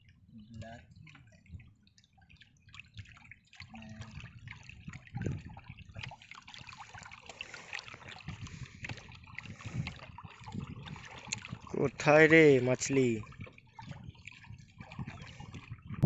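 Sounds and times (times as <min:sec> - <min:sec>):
water lapping against wooden boat: 0:00.0 - 0:16.0
small splashes: 0:00.6 - 0:15.9.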